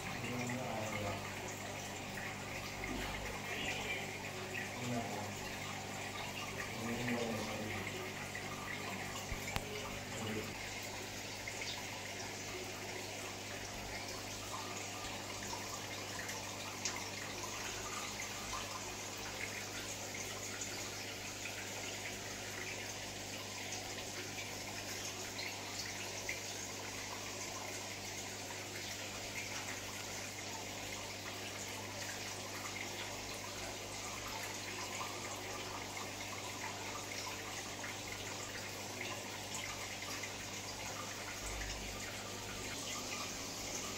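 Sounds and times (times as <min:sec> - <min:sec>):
water trickling and dripping: 0:00.0 - 0:43.9.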